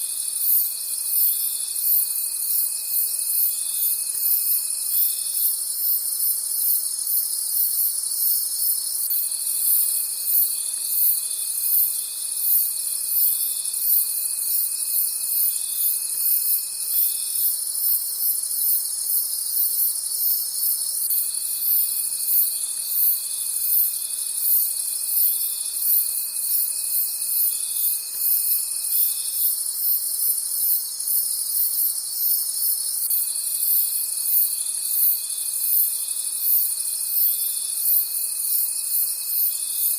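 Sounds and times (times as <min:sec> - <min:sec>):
crickets chirping: 0:00.0 - 0:39.9
lower insect trill: 0:00.0 - 0:39.9.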